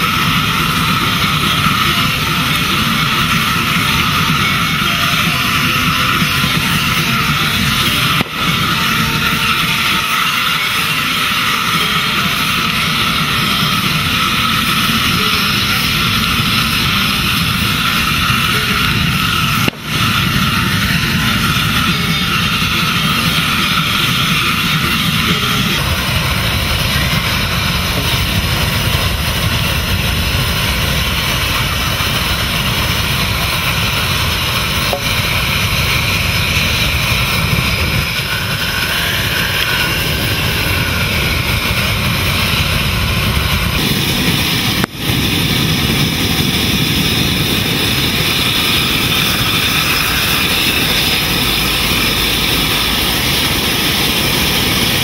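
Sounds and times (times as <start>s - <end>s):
loud mechanical drone: 0.0s - 55.0s.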